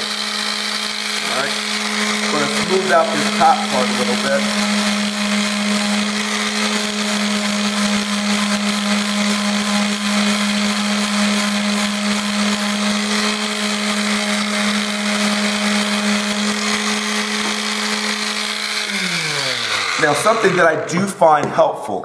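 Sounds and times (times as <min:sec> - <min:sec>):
sanding pad hissing on wood: 0:00.0 - 0:20.6
electric sander motor hum: 0:00.0 - 0:20.8.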